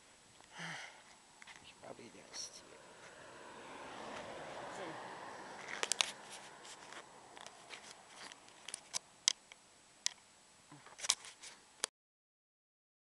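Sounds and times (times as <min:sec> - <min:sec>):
faint background hiss: 0:00.0 - 0:11.9.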